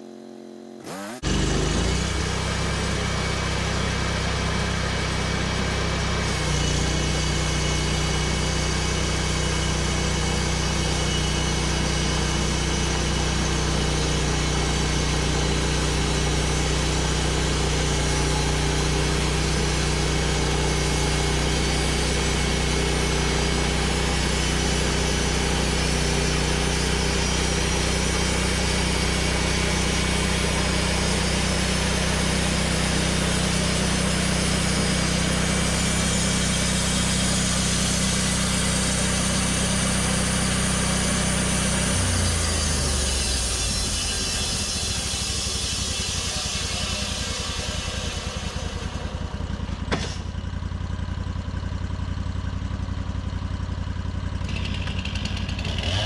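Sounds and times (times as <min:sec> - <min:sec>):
gas engine running: 0:00.0 - 0:56.0
band blade cutting log: 0:00.7 - 0:03.3, 0:04.9 - 0:49.0, 0:49.9 - 0:50.3.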